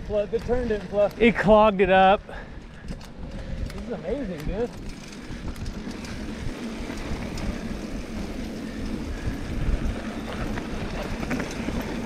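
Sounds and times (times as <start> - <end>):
tyres rolling on dirt trail: 0.0 - 12.0
small clicks from rough ground: 0.1 - 12.0.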